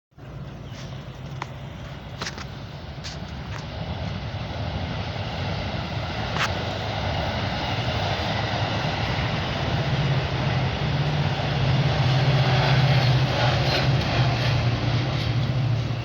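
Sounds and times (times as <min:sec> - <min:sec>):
train rumble: 0:00.1 - 0:16.0.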